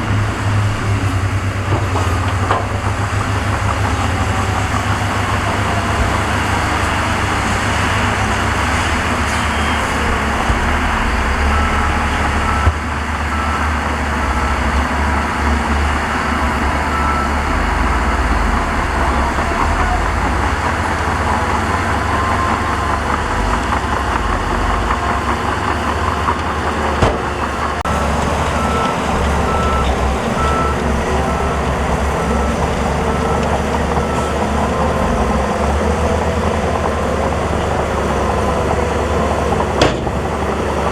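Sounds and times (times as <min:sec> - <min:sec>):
reversing alarm beeping: 0:00.0 - 0:26.9, 0:27.6 - 0:36.2
diesel machinery engine rumble: 0:00.0 - 0:40.9.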